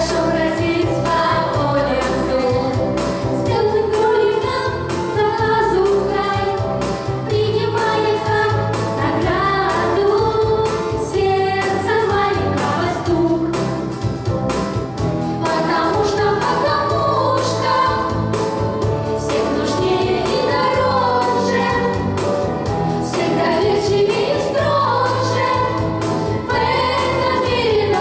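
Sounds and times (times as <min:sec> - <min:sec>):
vocal group singing: 0:00.0 - 0:13.9, 0:15.3 - 0:28.0
backing track with beat and bass: 0:00.0 - 0:28.0.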